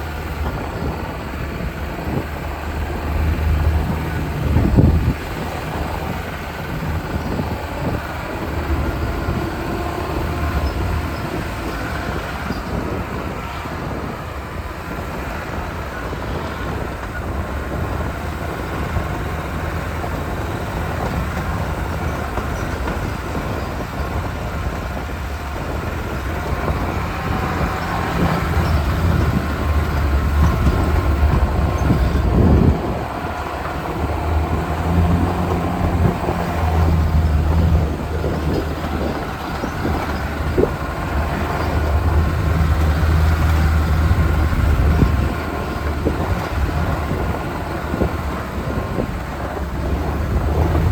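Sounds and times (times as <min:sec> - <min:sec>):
off-road vehicle rumbling: 0:00.0 - 0:50.9.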